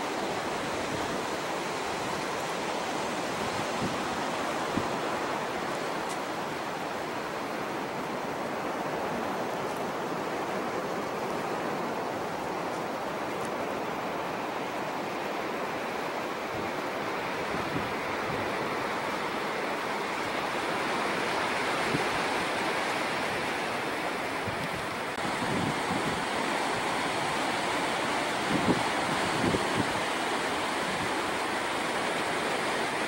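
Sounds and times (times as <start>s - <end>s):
ocean surf breaking on beach: 0.0s - 33.0s.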